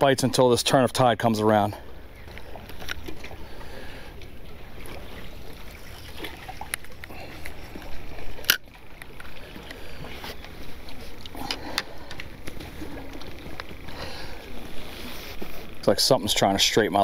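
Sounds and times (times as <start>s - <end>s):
water lapping: 0.0s - 17.0s.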